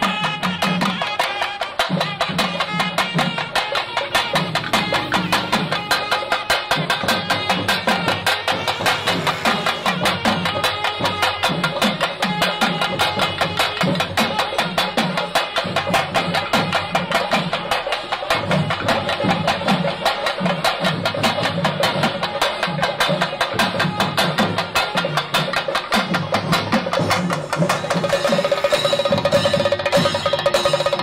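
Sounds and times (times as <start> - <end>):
drums beating fast rhythm: 0.0 - 31.0.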